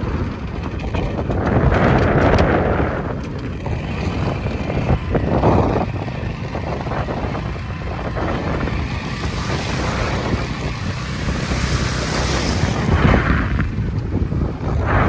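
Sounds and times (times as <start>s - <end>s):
moving motorbike rumble: 0.0s - 15.0s
wind buffeting microphone: 0.0s - 15.0s.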